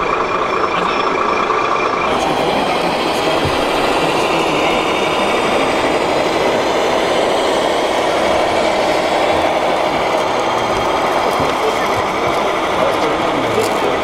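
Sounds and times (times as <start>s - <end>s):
busy exhibition hall noise: 0.0s - 14.0s
model truck engine sound: 0.0s - 14.0s.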